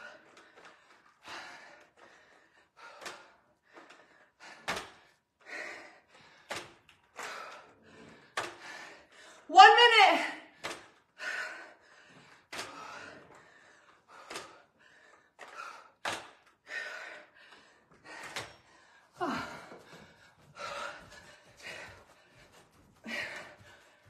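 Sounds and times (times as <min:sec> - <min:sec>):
woman breathing hard: 0:00.0 - 0:09.5, 0:10.4 - 0:24.0.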